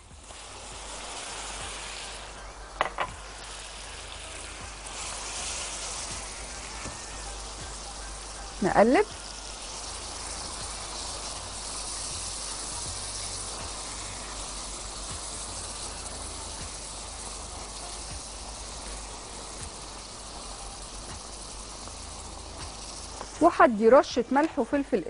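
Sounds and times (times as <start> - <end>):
onions sizzling in a frying pan: 0.0 - 25.0.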